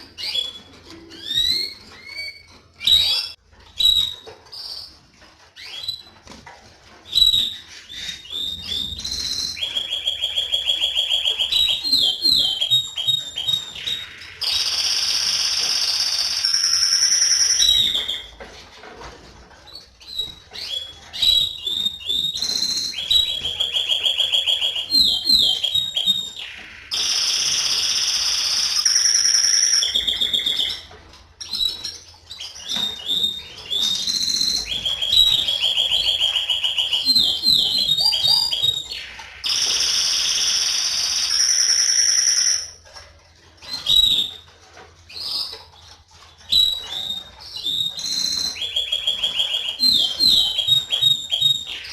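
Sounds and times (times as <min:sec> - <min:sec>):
canary singing trills: 0:00.0 - 0:06.3, 0:06.9 - 0:18.5, 0:19.6 - 0:42.9, 0:43.6 - 0:51.9.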